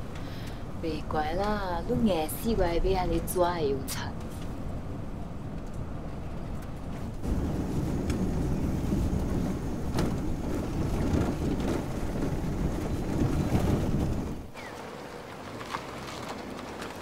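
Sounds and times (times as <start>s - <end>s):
wind noise: 0.0s - 14.7s
car engine and tyres rumbling: 0.0s - 17.0s.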